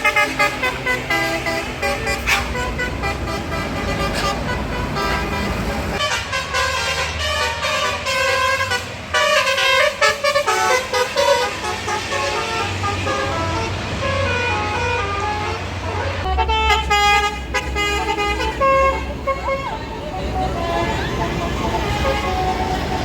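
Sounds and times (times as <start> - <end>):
bus engine rumble: 0.0 - 23.0
multi-tone horn tune: 0.0 - 23.0.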